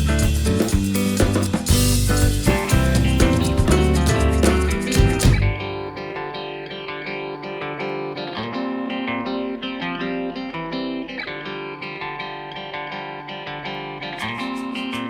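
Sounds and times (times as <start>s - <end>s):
guitar plucked melody with chords: 0.0s - 15.0s.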